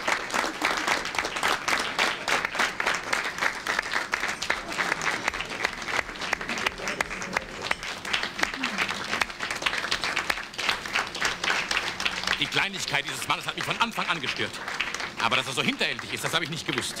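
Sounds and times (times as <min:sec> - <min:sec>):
people clapping: 0:00.0 - 0:17.0.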